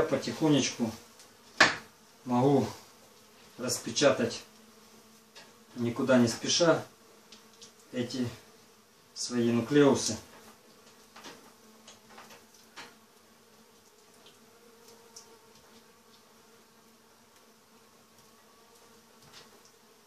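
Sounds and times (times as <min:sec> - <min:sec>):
faint buzzing hum: 0:00.0 - 0:20.0.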